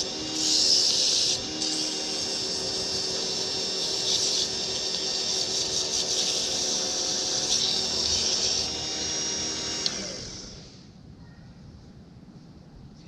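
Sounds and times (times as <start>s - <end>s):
wood lathe motor hum: 0.0s - 10.8s.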